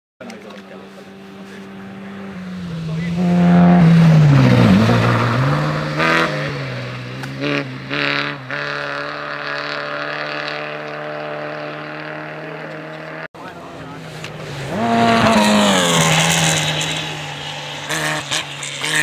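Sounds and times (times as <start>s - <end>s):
rally car engine at high revs: 0.3s - 19.0s.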